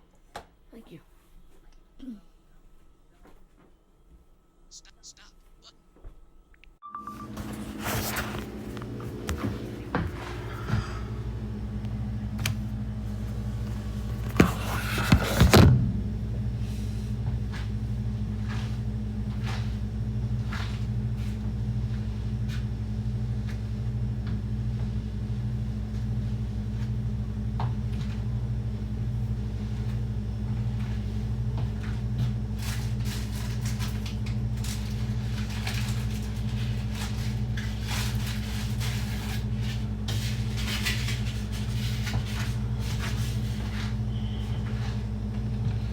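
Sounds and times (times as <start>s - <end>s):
kitchen appliance humming: 6.8s - 45.9s.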